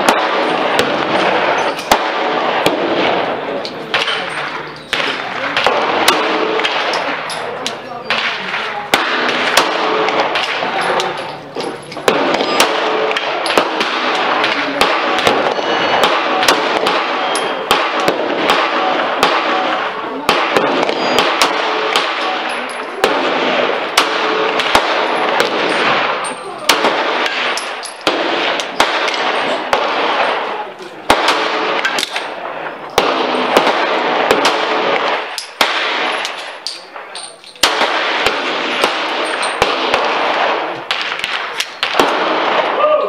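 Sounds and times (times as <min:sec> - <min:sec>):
pistol shots: 0:00.0 - 0:42.8
steady background noise: 0:00.0 - 0:43.0.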